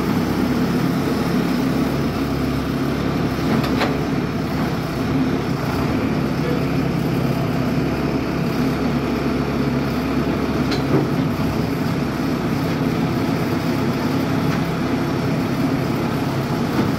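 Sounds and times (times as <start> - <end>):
drilling rig engine idling: 0.0 - 16.9.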